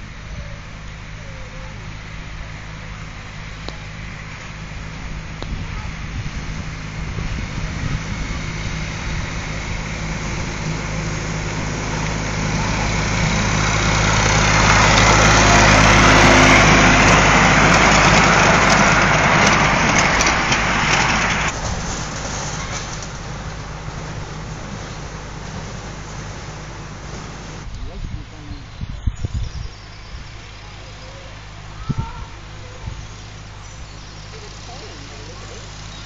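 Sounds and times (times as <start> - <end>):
wheels clicking on rails: 0.0 - 27.9, 29.8 - 36.0
locomotive engine humming: 0.0 - 36.0.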